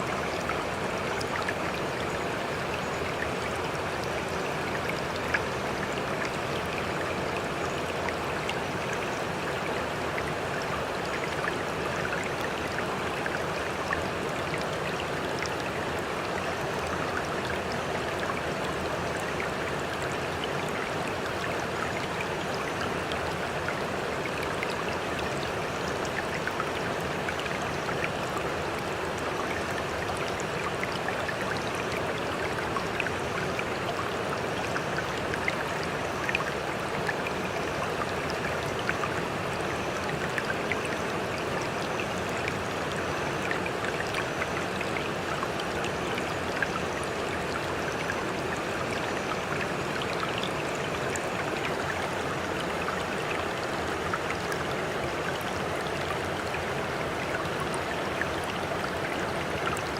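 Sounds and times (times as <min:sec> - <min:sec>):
sea water trickling and lapping: 0:00.0 - 0:59.9.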